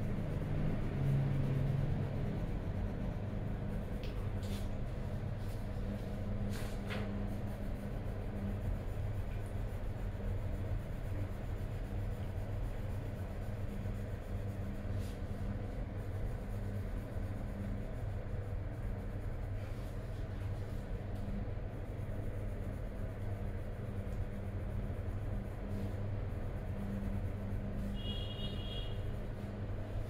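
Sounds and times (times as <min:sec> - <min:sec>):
pencil scratching on paper: 0:00.0 - 0:30.0
steady low hum: 0:00.0 - 0:30.0.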